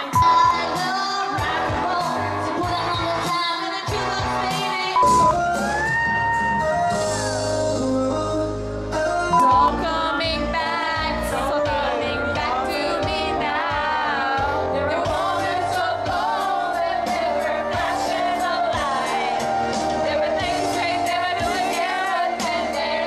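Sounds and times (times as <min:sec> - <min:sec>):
women singing into a microphone: 0:00.0 - 0:05.3, 0:09.3 - 0:23.0
pop backing track: 0:00.0 - 0:23.0.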